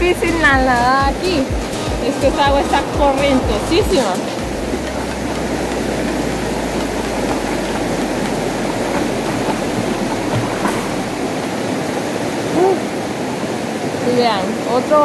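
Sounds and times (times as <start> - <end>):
river current rushing: 0.0 - 15.0
water splashing close: 0.0 - 15.0.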